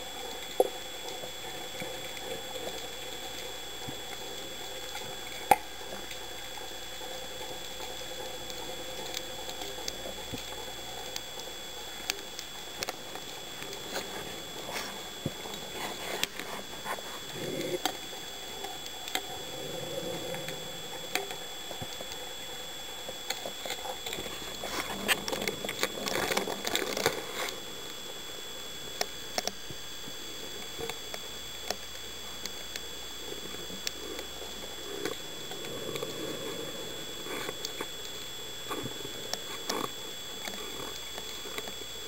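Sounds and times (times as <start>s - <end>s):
diver breathing and bubbles: 0.0s - 42.0s
steady hiss: 0.0s - 42.0s
underwater crackling clicks: 0.1s - 42.0s.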